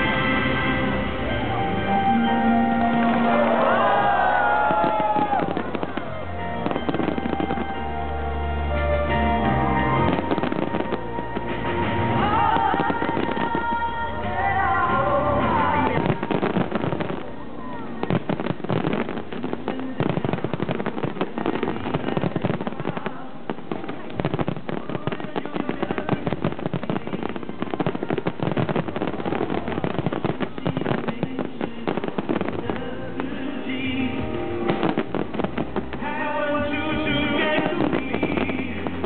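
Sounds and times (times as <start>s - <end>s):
fireworks crackling and bursting: 0.0s - 39.0s
music playing: 0.0s - 39.0s.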